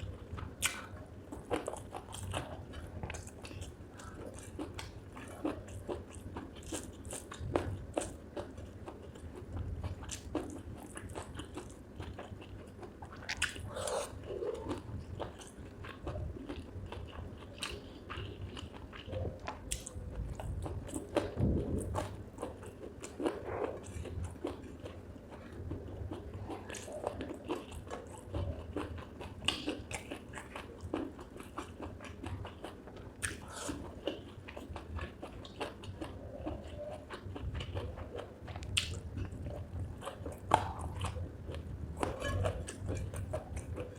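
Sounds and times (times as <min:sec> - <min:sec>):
chewing crunches: 0:00.0 - 0:43.9.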